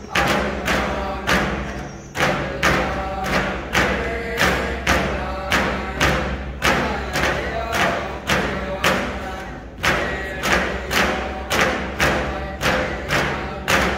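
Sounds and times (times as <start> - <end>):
faint singing voices: 0.0 - 13.9
frame drums beating: 0.0 - 13.9.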